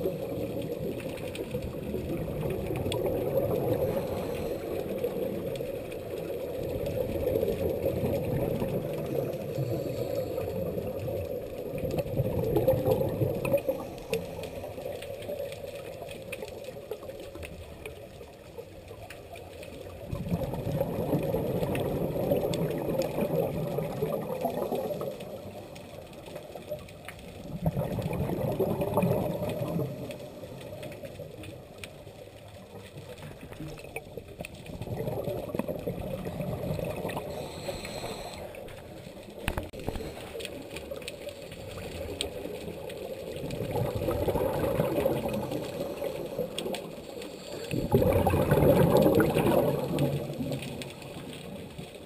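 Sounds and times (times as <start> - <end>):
scuba exhalation bubbles: 0.0 - 14.4, 19.9 - 25.7, 27.4 - 31.7, 33.1 - 40.2, 41.6 - 51.9.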